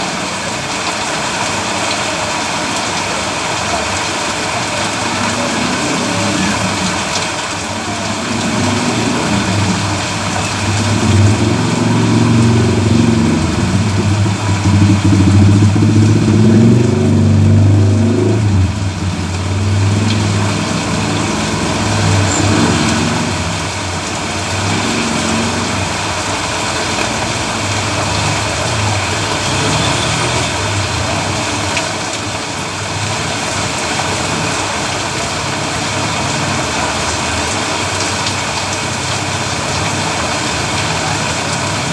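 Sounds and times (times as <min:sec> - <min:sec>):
rain hiss on road: 0:00.0 - 0:41.9
vehicle engine passing: 0:02.8 - 0:41.9.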